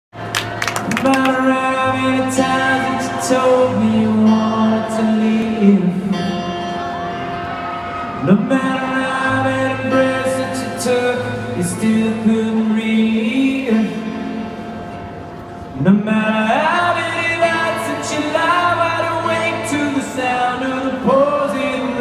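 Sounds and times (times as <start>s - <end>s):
acoustic guitar: 0.2s - 22.0s.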